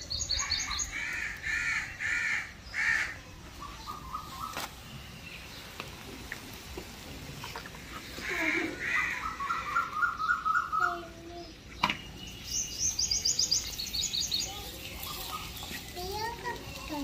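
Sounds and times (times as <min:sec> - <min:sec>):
birds calling and chirping: 0:00.0 - 0:17.0.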